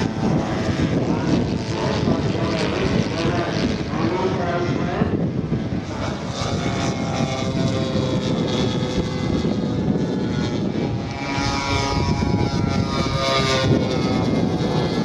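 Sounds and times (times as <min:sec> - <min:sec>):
model plane engines droning: 0:00.0 - 0:15.0.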